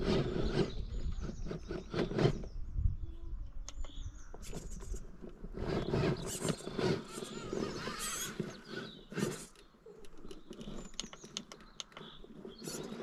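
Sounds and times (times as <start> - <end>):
tyres scraping against stone: 0.0 - 2.5, 4.4 - 13.0
rc car electric motor and gears: 0.0 - 2.6, 3.6 - 13.0.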